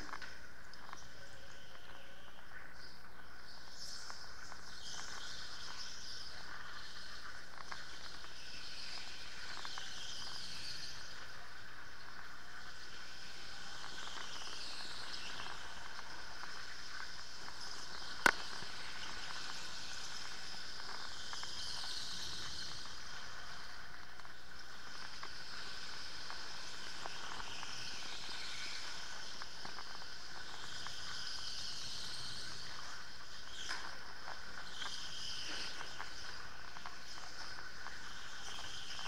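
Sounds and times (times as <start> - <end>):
steady hiss: 0.0 - 39.0.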